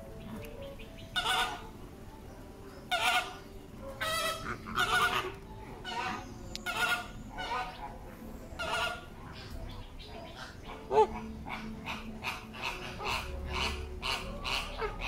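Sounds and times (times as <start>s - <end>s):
flamingos honking: 0.0s - 15.0s.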